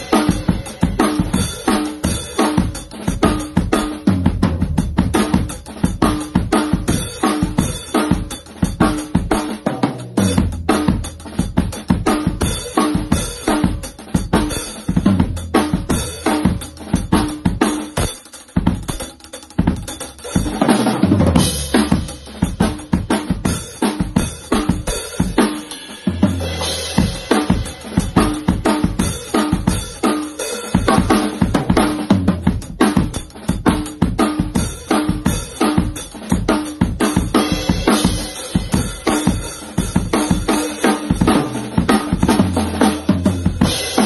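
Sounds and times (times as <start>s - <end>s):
drum kit grooves and fills: 0.0s - 44.0s.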